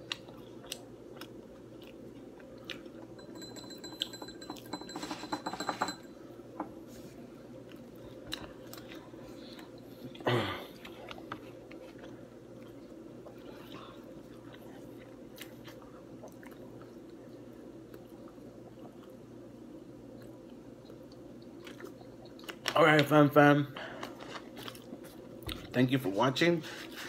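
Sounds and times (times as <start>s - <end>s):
chewing pizza: 0.0s - 3.2s, 7.2s - 25.9s
steady low hum: 0.0s - 27.0s.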